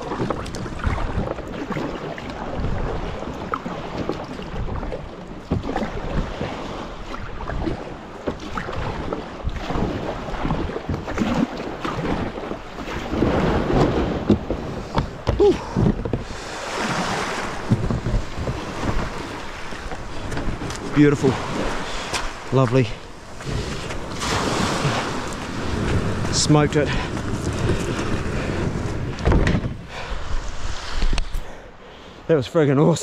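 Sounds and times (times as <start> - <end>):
kayak paddle strokes splashing: 0.0 - 31.4
wind on microphone: 0.0 - 31.6
water sloshing around kayak: 0.0 - 32.3.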